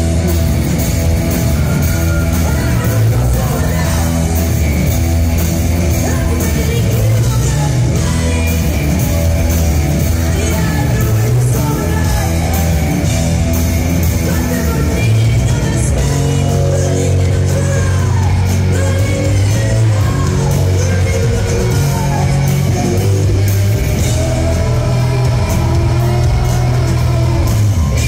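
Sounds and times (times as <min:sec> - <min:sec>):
bass guitar: 0:00.0 - 0:28.0
drum kit beat: 0:00.0 - 0:28.0
electric guitars: 0:00.0 - 0:28.0
keyboards: 0:00.0 - 0:28.0
woman singing: 0:02.3 - 0:04.7, 0:05.8 - 0:13.0, 0:14.2 - 0:28.0.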